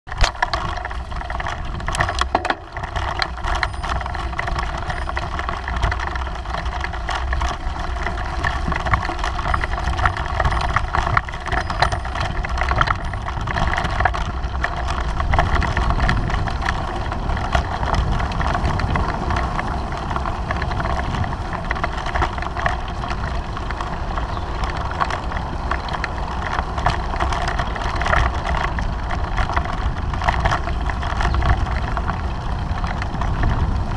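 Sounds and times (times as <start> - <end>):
bicycle frame knocks and rattles: 0.1 - 33.9
wind and ground rumble: 0.1 - 33.9.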